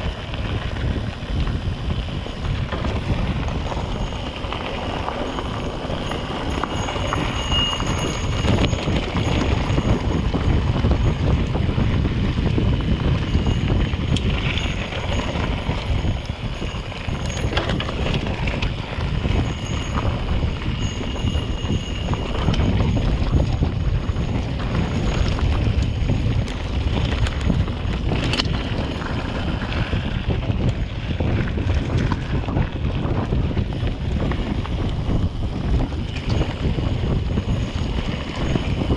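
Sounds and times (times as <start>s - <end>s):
bike rattling over gravel: 0.0s - 38.9s
wind buffeting microphone: 0.0s - 38.9s.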